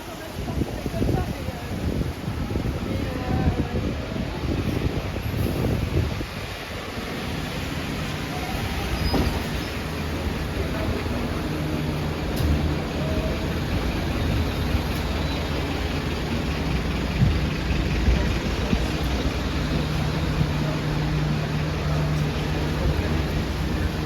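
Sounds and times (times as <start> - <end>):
city traffic noise: 0.0 - 24.0
vehicle engine idling: 0.1 - 24.0.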